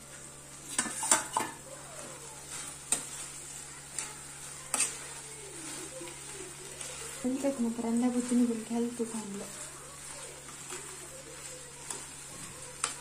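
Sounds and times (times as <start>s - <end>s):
potatoes and onions sizzling: 0.0s - 13.0s
spoon scraping and knocking pan: 0.7s - 1.6s, 2.4s - 13.0s.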